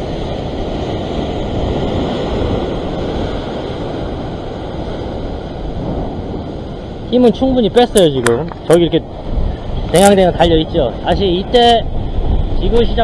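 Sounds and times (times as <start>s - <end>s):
surf breaking over rocks: 0.0s - 13.0s
wind rumbling on microphone: 0.0s - 13.0s.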